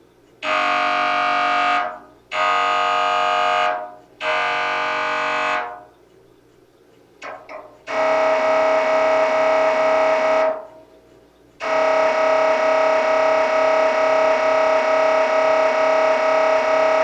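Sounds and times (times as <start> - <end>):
mri scanner buzzing: 0.4 - 6.4, 7.4 - 17.0.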